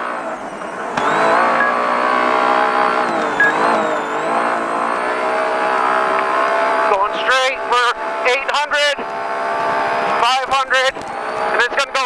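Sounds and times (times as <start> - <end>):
engine running hard: 0.0 - 12.0.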